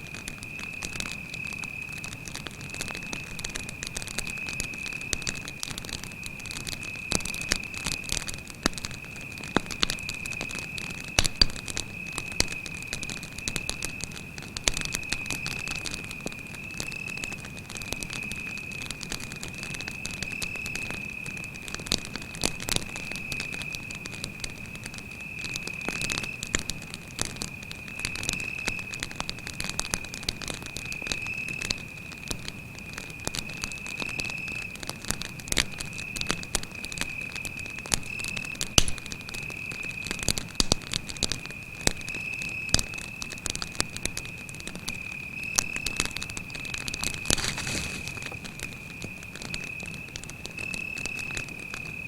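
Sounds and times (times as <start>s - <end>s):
campfire crackling and popping: 0.0s - 52.0s
cricket trill: 0.0s - 52.0s.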